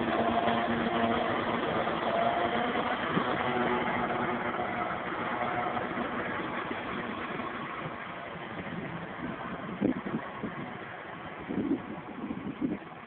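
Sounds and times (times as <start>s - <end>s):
broad rushing noise: 0.0s - 13.0s
tractor diesel engine under load: 0.0s - 13.0s.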